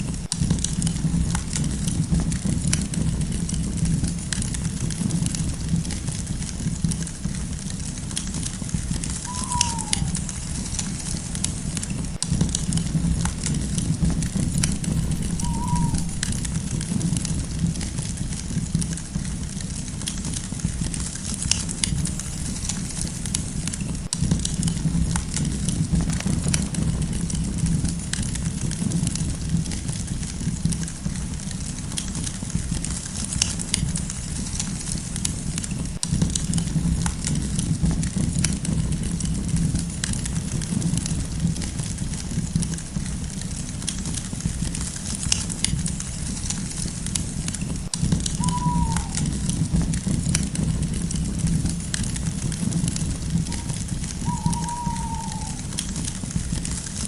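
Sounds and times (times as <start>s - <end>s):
campfire flames rumbling: 0.0s - 57.0s
fire crackles and pops: 0.0s - 57.0s.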